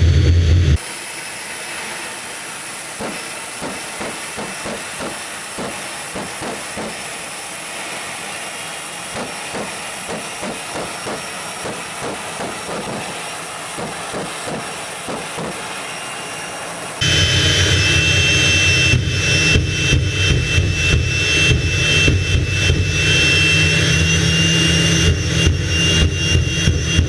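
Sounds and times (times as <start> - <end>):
turbine engine hissing rush: 0.0 - 27.0.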